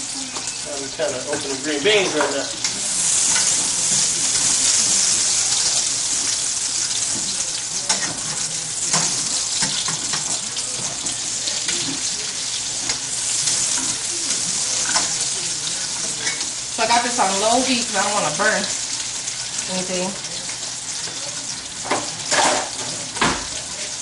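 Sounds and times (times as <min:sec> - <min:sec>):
onion sizzling in pan: 0:00.0 - 0:24.0.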